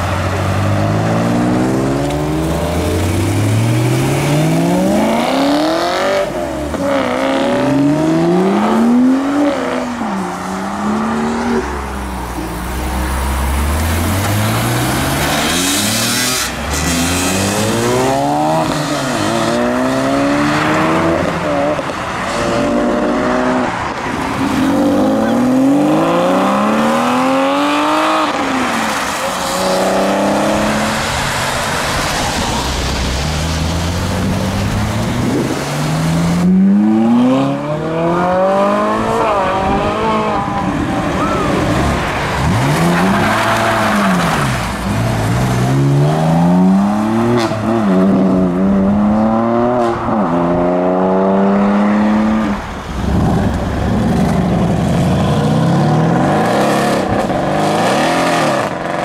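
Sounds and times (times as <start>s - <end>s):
cars accelerating past: 0.0s - 59.0s.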